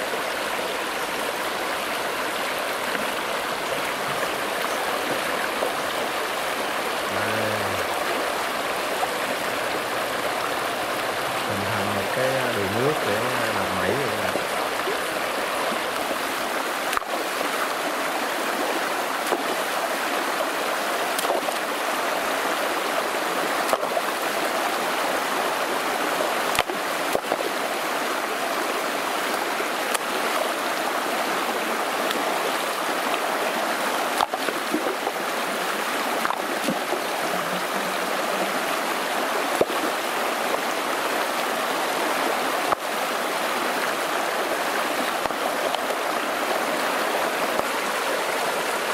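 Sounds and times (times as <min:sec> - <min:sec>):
stream rushing over stones: 0:00.0 - 0:48.9.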